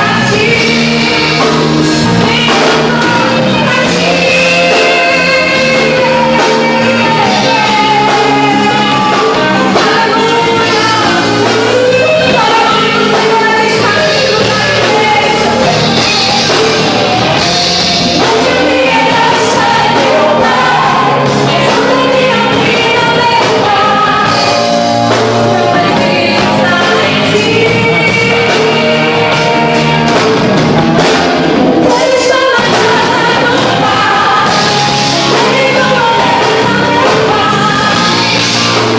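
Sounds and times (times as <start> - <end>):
lead vocalist singing: 0.0 - 38.9
worship band playing: 0.0 - 38.9.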